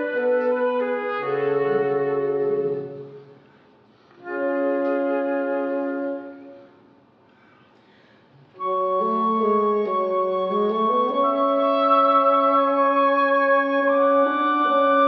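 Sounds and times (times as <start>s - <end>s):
woodwind trio playing chamber music: 0.0s - 7.2s, 8.5s - 15.0s.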